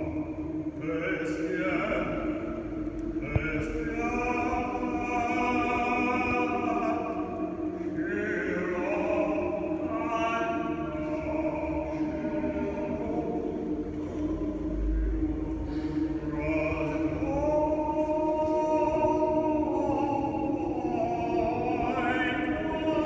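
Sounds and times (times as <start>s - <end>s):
male choir singing a cappella: 0.0s - 23.0s.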